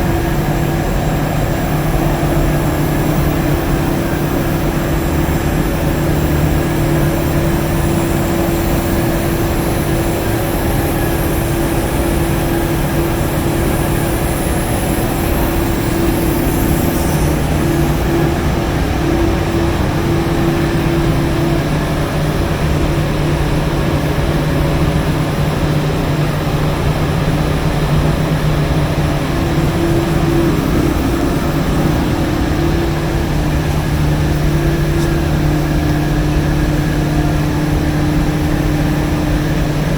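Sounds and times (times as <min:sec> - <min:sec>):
machinery hum and mechanical din: 0:00.0 - 0:39.9.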